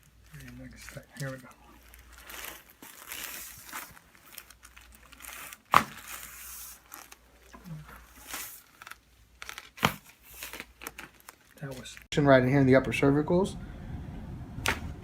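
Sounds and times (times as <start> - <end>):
soft rustling: 0.0 - 12.1.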